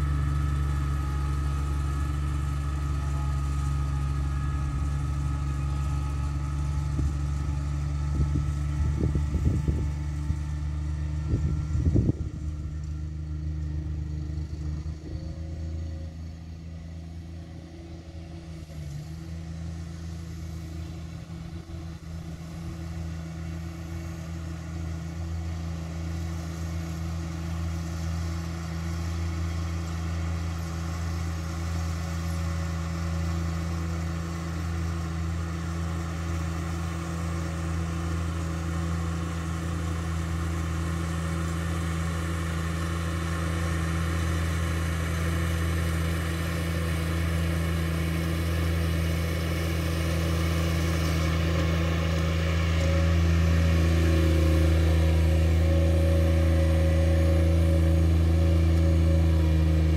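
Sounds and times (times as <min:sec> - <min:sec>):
distant lawn mower engine: 0:00.0 - 0:59.9.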